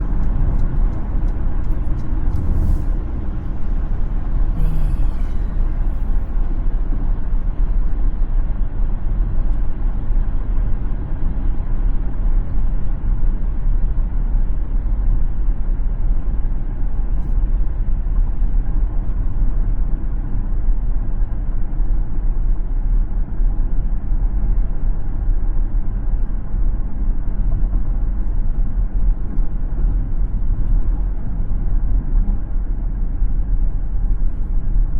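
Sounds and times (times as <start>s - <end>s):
car driving rumble: 0.0s - 34.9s.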